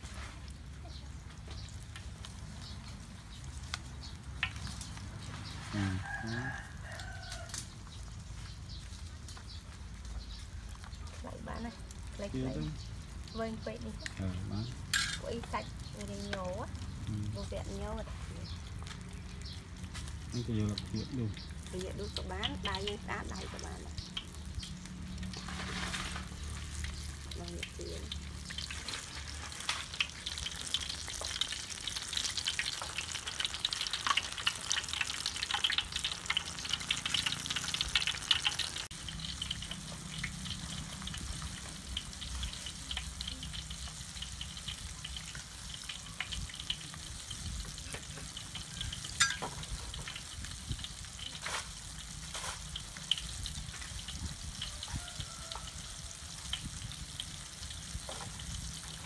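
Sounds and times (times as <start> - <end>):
batter deep-frying in hot oil: 0.0 - 59.0.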